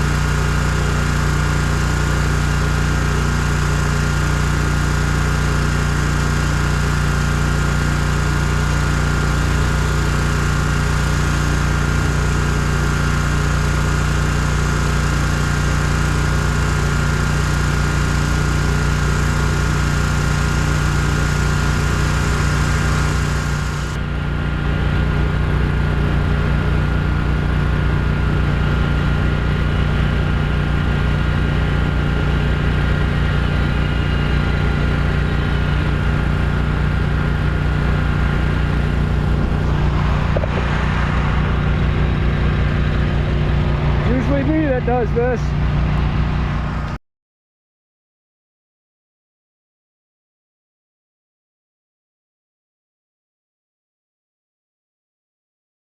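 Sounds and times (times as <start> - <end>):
small engine idling: 0.0 - 47.0.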